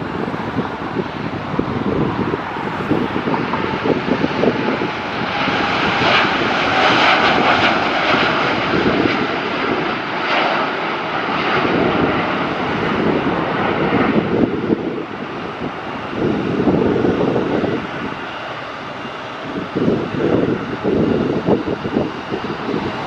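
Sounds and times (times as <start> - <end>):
jet engines at takeoff: 0.0 - 23.0.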